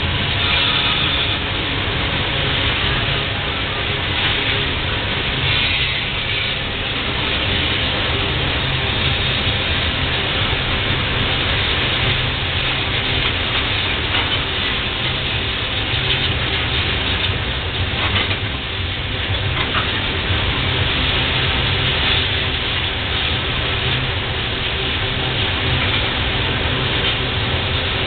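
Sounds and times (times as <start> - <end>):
steel wheels rumbling on rails: 0.0 - 28.0.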